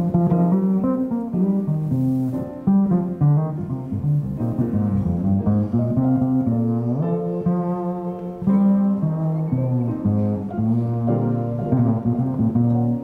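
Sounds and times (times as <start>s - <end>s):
small jazz group playing: 0.0s - 13.0s.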